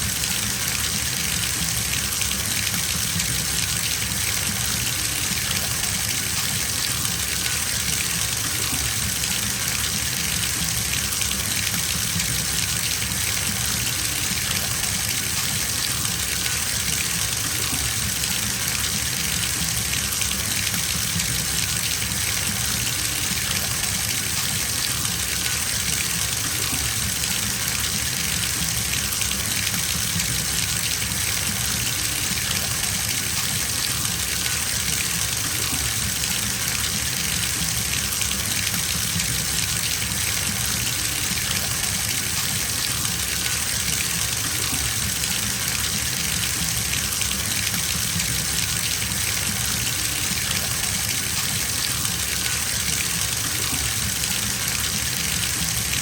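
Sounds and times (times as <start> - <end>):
tap water running into bathtub: 0.0 - 56.0.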